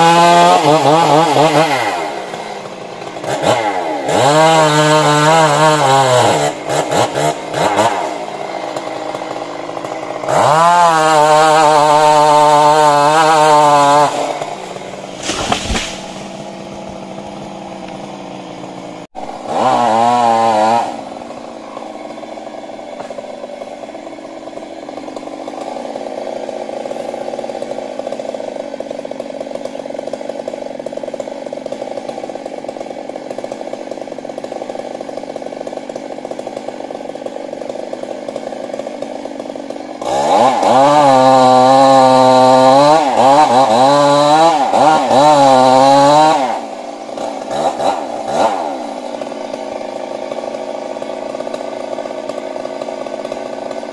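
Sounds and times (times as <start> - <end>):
chainsaw engine idling and revving: 0.0 - 53.9.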